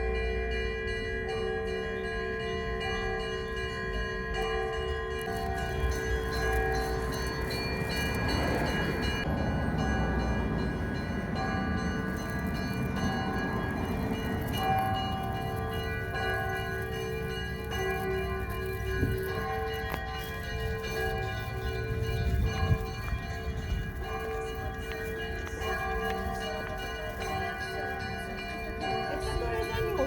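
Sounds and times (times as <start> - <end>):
church bells pealing: 0.0 - 30.0.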